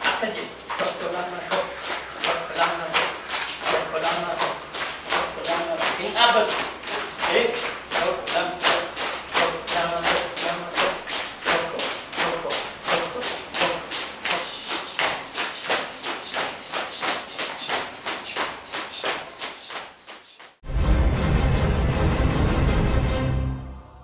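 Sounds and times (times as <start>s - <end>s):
dance stepping beats: 0.0s - 20.0s.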